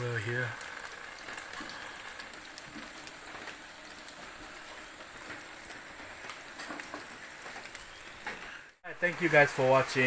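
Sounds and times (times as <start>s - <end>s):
water hissing: 0.0s - 10.0s.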